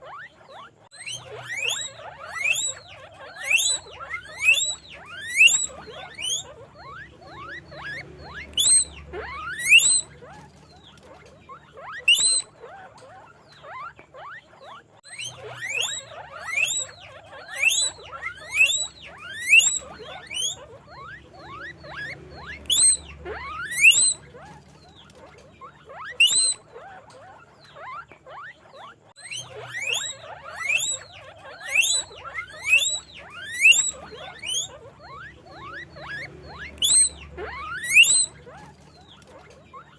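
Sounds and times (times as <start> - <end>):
guinea pig squeaking: 0.0 - 39.9.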